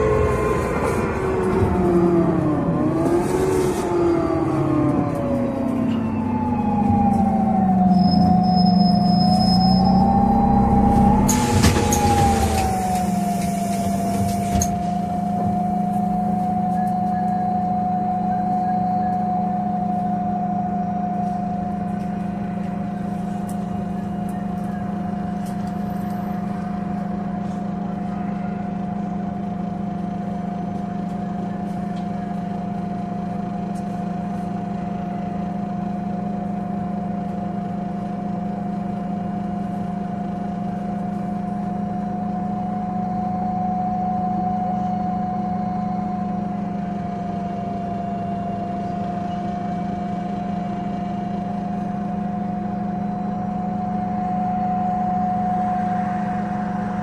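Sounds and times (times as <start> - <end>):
bus engine idling: 0.0 - 57.0
steady engine whine: 0.0 - 57.0.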